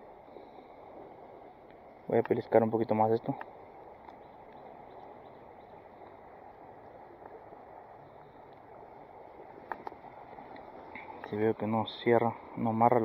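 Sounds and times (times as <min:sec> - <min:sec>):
flowing creek water: 0:00.0 - 0:13.0
faint ticks: 0:00.1 - 0:13.0.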